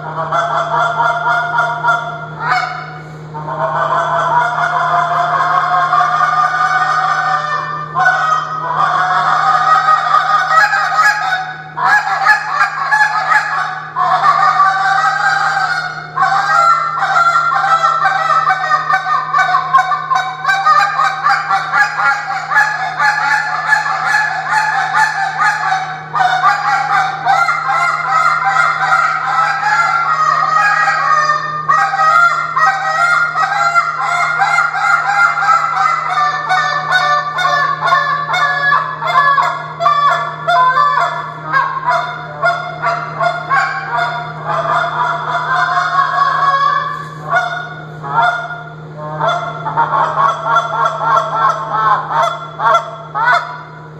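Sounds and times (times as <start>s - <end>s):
goose call honks and clucks: 0.0s - 53.9s
steady low hum: 0.0s - 53.9s.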